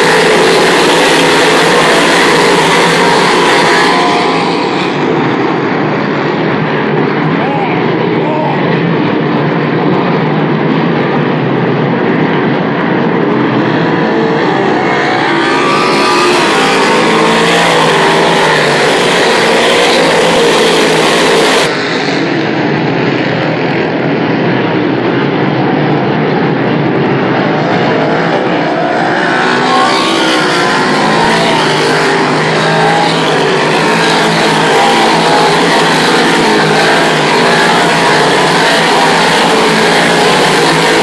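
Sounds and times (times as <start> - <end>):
race car engines running hard: 0.0 - 41.0.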